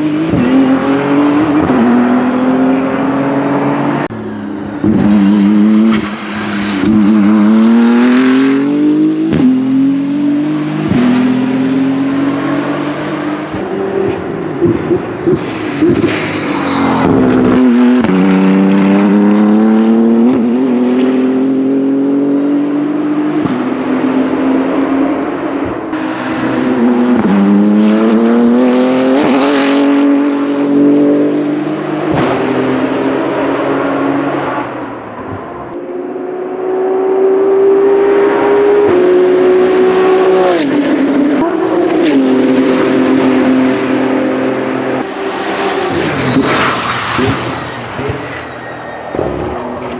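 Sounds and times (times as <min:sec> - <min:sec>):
race car engine at speed: 0:00.0 - 0:49.9.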